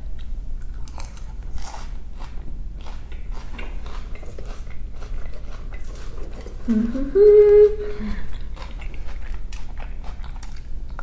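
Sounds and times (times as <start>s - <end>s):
chewing crunchy salad: 0.0s - 11.0s.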